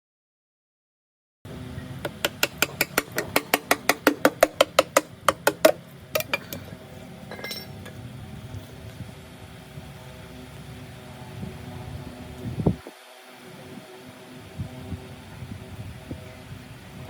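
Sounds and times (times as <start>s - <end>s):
low workshop hum: 1.5s - 17.0s.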